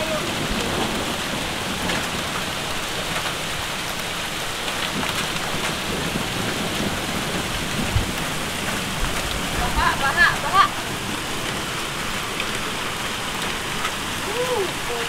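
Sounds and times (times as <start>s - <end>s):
hailstones ticking: 0.0s - 15.0s
heavy rain hiss: 0.0s - 15.0s.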